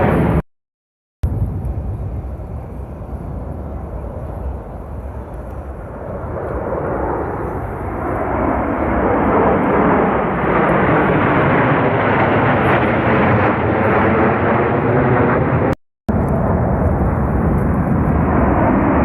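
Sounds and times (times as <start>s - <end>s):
military aircraft flying overhead: 0.0s - 0.4s, 1.3s - 19.0s.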